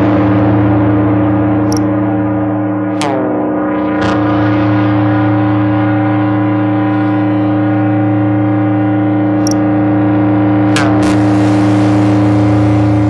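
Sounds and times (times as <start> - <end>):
synthesizer drone: 0.0 - 13.0.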